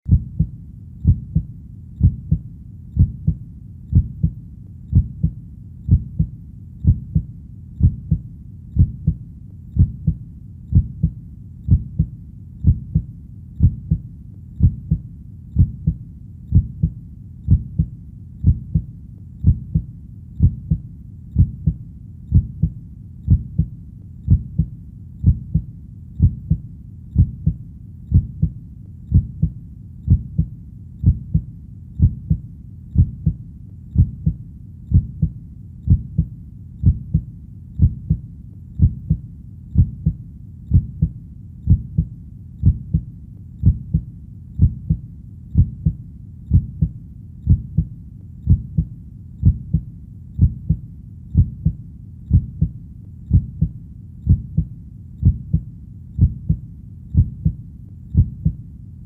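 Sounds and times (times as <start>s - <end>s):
heartbeat double thump: 0.1s - 2.4s, 3.0s - 8.2s, 8.8s - 9.2s, 9.8s - 14.0s, 14.6s - 15.0s, 15.6s - 20.8s, 21.4s - 23.7s, 24.3s - 26.6s, 27.2s - 32.4s, 34.0s - 38.2s, 38.8s - 39.2s, 39.8s - 45.0s, 45.6s - 47.9s, 48.5s - 50.8s, 51.4s - 52.7s, 53.3s - 53.7s, 54.3s - 55.6s, 56.2s - 56.6s, 57.2s - 58.6s.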